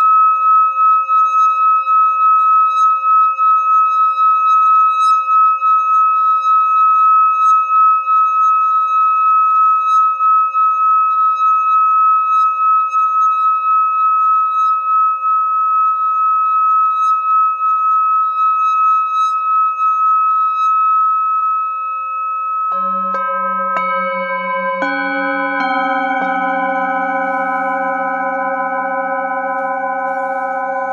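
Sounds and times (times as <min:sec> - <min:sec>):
singing bowl ringing tone: 0:00.0 - 0:30.9.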